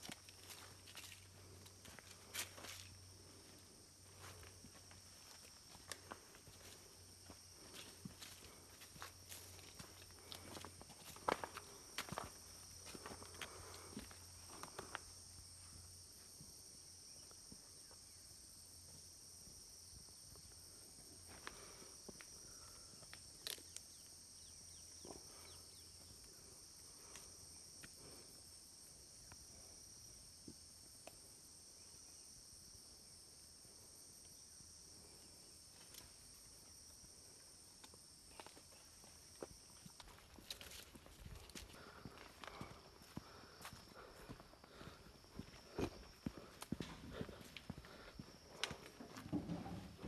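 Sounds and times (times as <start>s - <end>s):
insects chorus: 0.0s - 50.0s.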